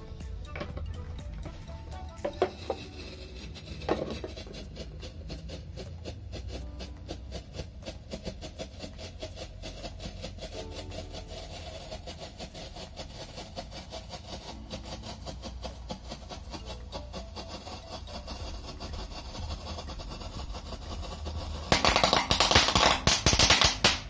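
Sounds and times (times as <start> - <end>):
firecracker crackling hiss: 1.5 - 24.0.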